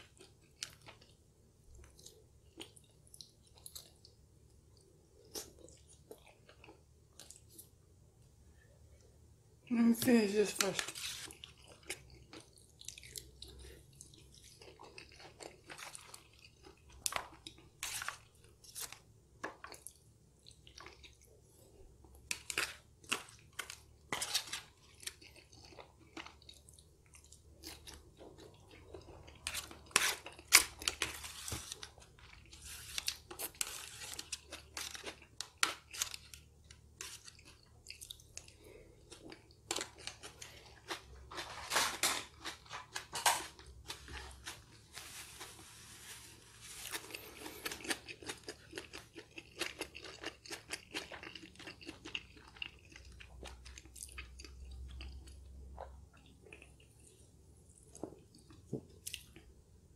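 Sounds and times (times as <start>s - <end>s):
person chewing food: 0.0s - 7.8s, 10.8s - 59.7s.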